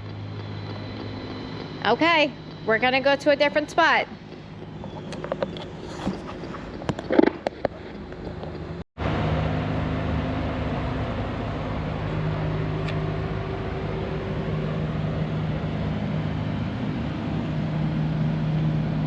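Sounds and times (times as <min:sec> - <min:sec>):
mechanical drone: 0:00.0 - 0:19.0.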